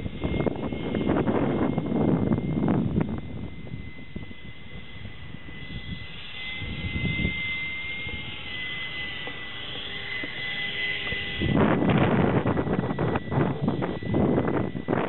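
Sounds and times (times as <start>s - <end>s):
ducted fan whining: 0.0s - 15.0s
wind rumble on microphone: 0.0s - 15.0s.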